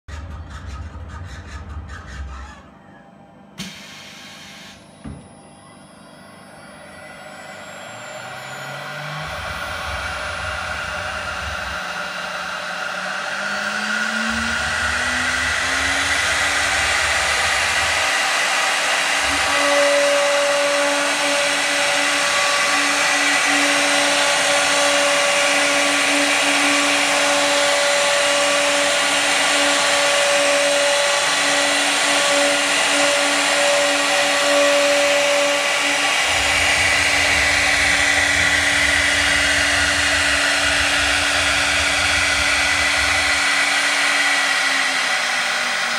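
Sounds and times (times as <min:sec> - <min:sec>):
electric spindle whining: 0:04.8 - 0:45.9
engraving bit cutting a groove: 0:09.0 - 0:45.9.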